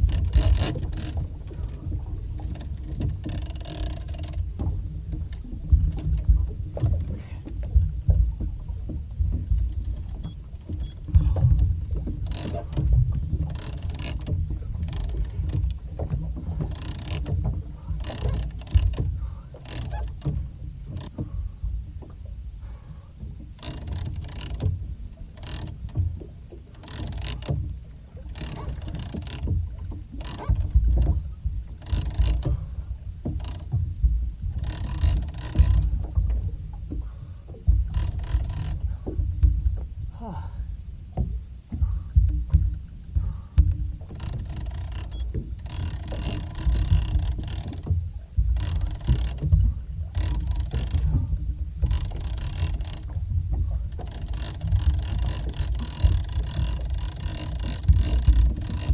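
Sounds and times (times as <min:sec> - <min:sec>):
low rumble of wind and hull: 0:00.0 - 0:58.9
water washing against hull: 0:00.0 - 0:58.9.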